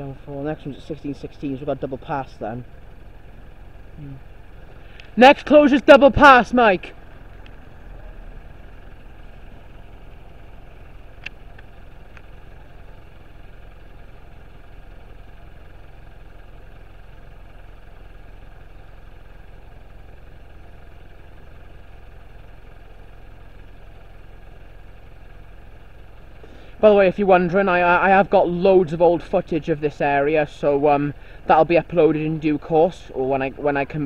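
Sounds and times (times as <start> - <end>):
vehicles idling: 0.0 - 34.0.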